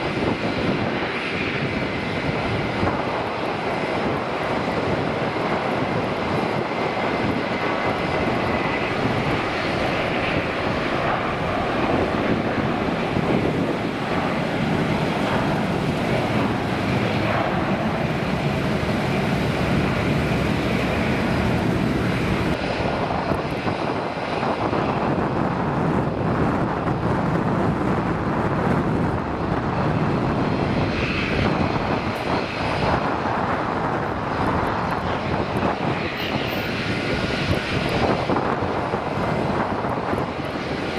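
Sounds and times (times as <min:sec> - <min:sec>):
jet engine at takeoff: 0:00.0 - 0:40.9
jet engines on approach: 0:00.0 - 0:40.9.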